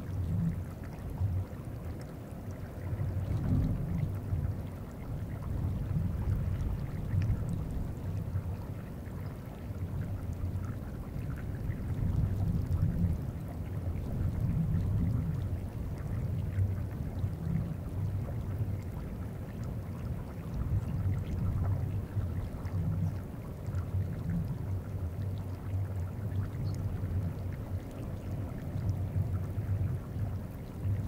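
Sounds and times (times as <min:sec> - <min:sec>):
faint trickling water: 0:00.0 - 0:31.0.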